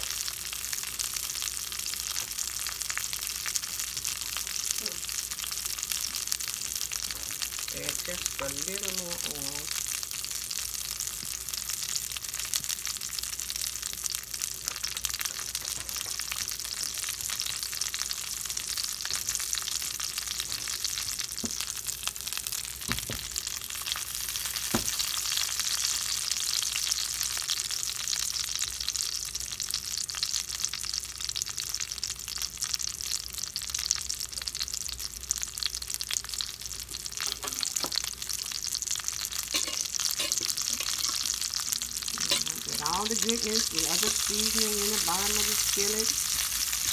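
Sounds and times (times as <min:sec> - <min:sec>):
potato wedges sizzling in oil: 0:00.0 - 0:46.9.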